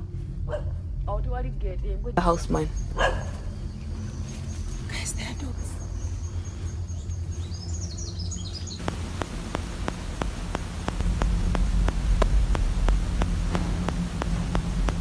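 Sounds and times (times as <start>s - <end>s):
steady low rumble: 0.0s - 15.0s
bird chirping: 2.2s - 15.0s
sharp regular ticking: 2.2s - 15.0s.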